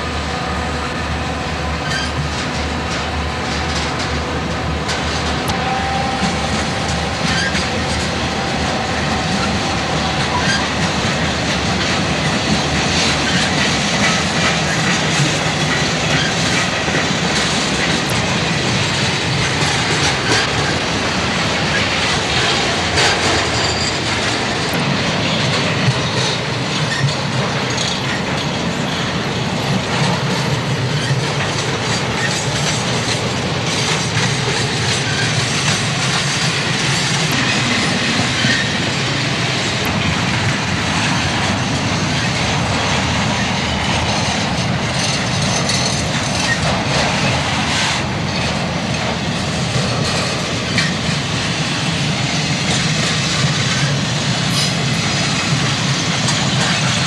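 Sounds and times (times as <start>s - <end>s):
train wheels rumbling on rail: 0.0s - 57.0s
wheels clicking over rail joints: 1.8s - 57.0s.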